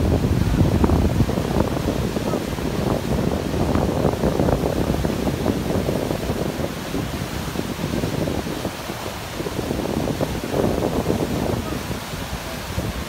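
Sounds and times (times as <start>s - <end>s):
fast-flowing floodwater: 0.0s - 13.0s
wind buffeting microphone: 0.0s - 13.0s
wind rushing: 0.0s - 13.0s.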